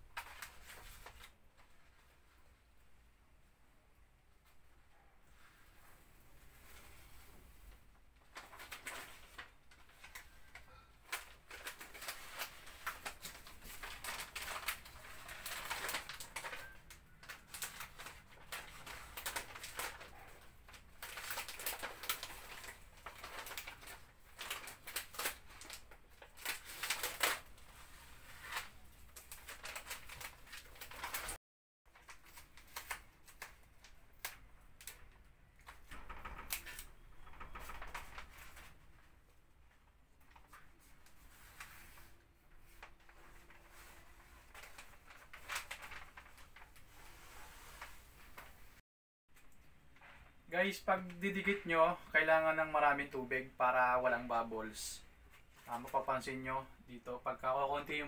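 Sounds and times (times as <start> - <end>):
plastic film crackling and rustling: 0.0 - 2.4, 6.4 - 48.8, 49.4 - 58.0.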